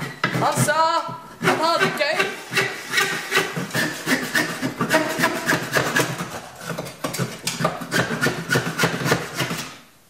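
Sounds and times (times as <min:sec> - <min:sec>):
hand saw cutting wood: 0:00.0 - 0:09.8.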